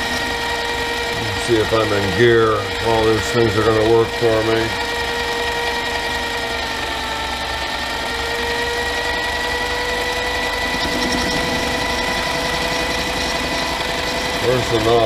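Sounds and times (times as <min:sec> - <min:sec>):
lathe motor whine: 0:00.0 - 0:15.0.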